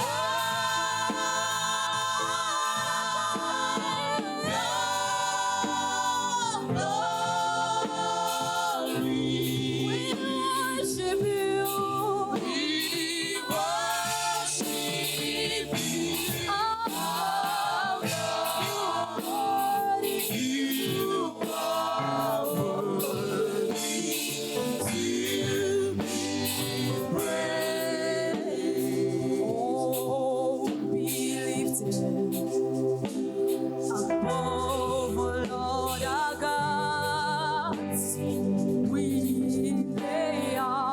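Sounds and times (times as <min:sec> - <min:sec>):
church choir singing gospel: 0:00.0 - 0:40.9.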